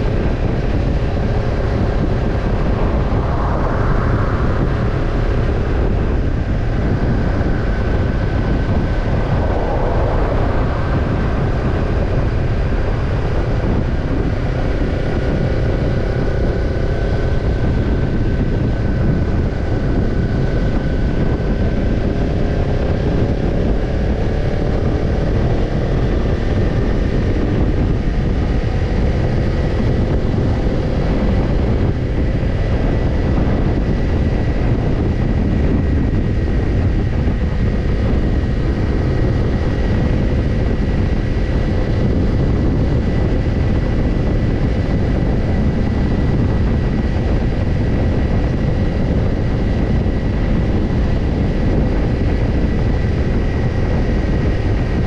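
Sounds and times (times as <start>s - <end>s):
heavy low rush: 0.0s - 55.0s
motorcycle engine cruising: 0.0s - 55.0s.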